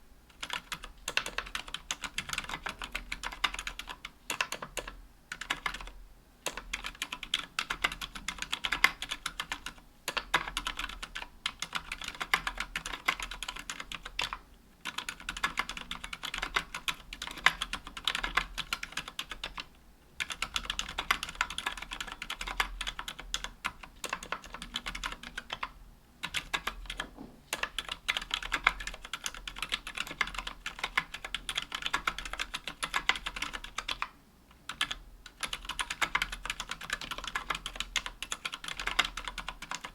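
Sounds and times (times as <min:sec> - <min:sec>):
fast typing on keyboard: 0:00.3 - 0:34.1, 0:34.7 - 0:39.9.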